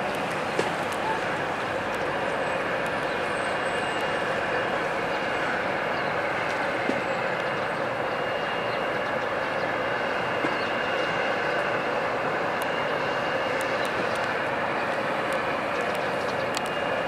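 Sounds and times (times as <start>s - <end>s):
distant traffic roar: 0.0s - 17.0s.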